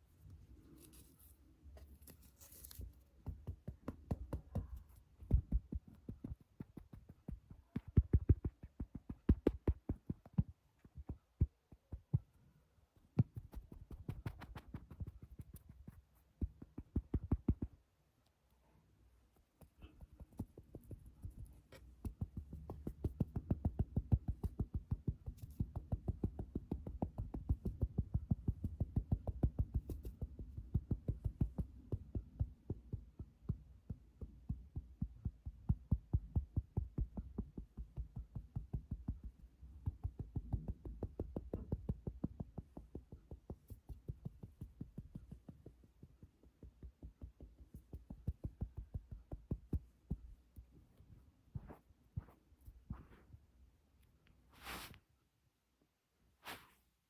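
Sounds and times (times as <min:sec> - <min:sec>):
soft fingertip tapping: 0:02.6 - 0:12.4, 0:13.0 - 0:17.8, 0:19.6 - 0:50.8.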